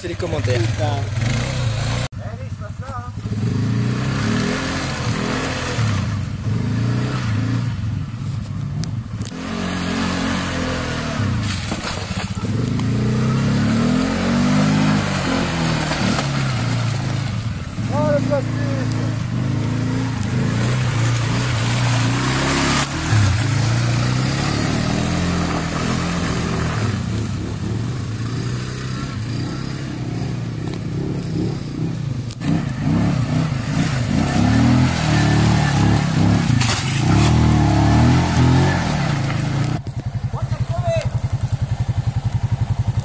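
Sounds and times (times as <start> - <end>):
quad bike engines revving: 0.0 - 43.0.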